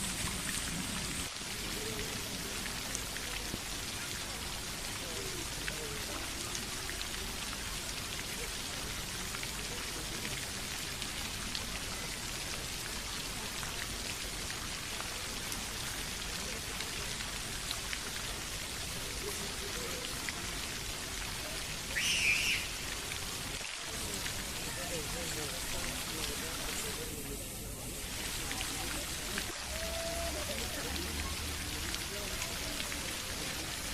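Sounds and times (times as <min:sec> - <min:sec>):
falling water patter: 0:00.0 - 0:33.9.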